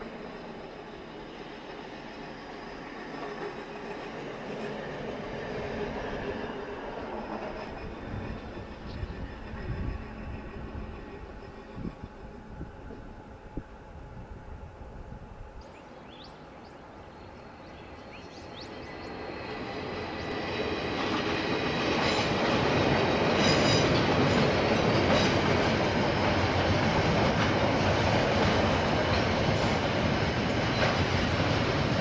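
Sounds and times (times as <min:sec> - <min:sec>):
diesel locomotives: 0:00.0 - 0:32.0.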